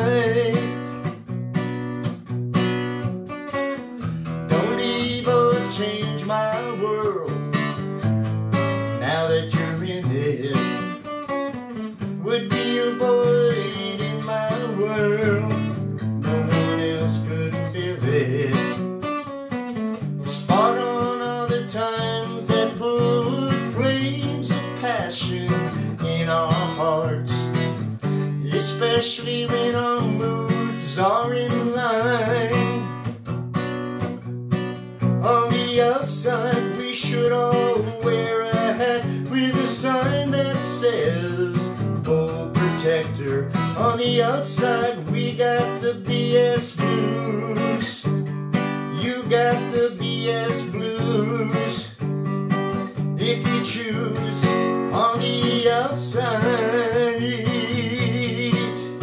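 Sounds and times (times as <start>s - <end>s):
man singing: 0.0s - 1.2s, 4.2s - 11.1s, 12.0s - 19.1s, 20.2s - 33.2s, 35.0s - 59.0s
acoustic guitar strummed blues: 0.0s - 59.0s.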